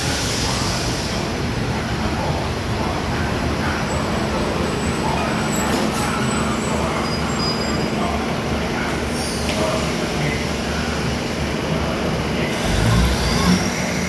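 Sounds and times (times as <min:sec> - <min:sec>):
diesel train engines idling: 0:00.0 - 0:14.0.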